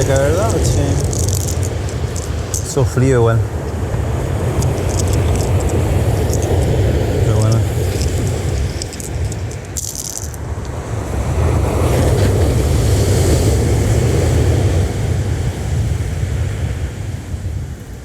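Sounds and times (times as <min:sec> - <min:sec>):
sea waves breaking on shore: 0:00.0 - 0:17.6
wind rumble on microphone: 0:00.0 - 0:18.0.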